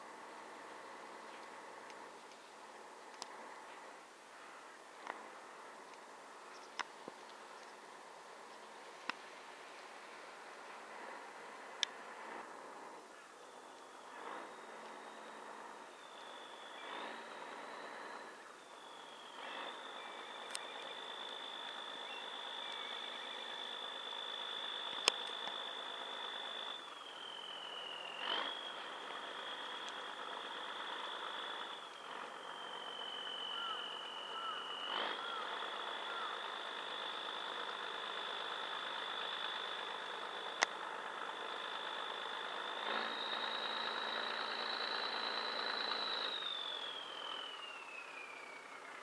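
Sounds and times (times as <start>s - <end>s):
boat diesel engine running: 0.0s - 49.0s
high engine whine: 0.0s - 49.0s.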